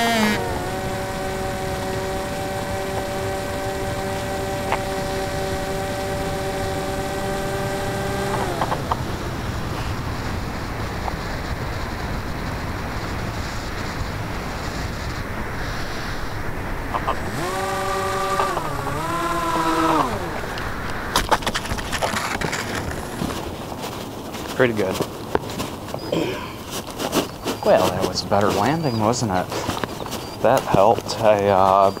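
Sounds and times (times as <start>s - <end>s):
electric motor and propeller whining: 0.0s - 32.0s.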